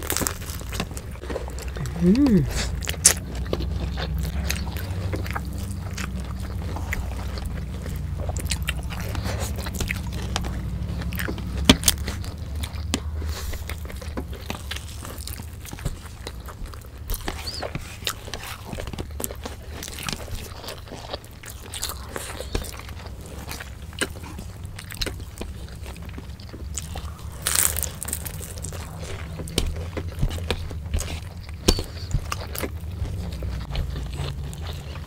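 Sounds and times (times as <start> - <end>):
chewing and crunching food: 0.0 - 35.0
low hum: 0.0 - 35.0.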